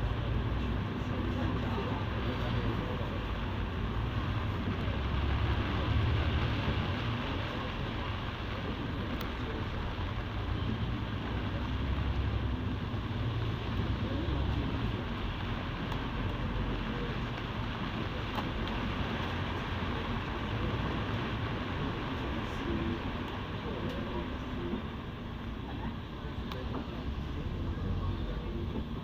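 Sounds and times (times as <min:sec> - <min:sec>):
bus engine rumble: 0:00.0 - 0:29.0
road and cabin noise: 0:00.0 - 0:29.0.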